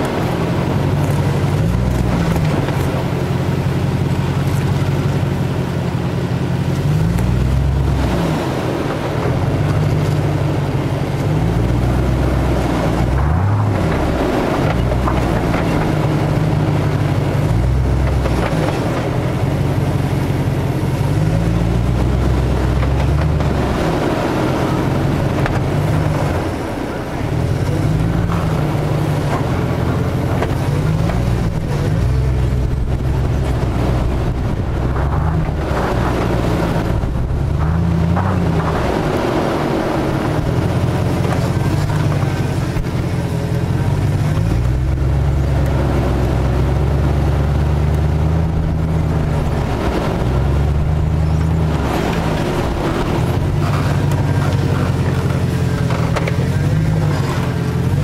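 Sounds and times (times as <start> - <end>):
car engine revving under load: 0.0 - 58.0.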